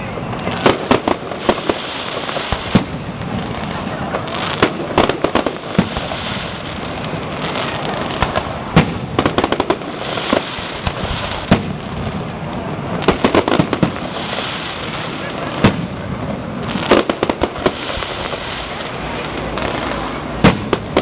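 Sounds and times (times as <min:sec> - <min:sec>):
fireworks crackle: 0:00.0 - 0:21.0
fireworks sharp bangs: 0:00.0 - 0:21.0.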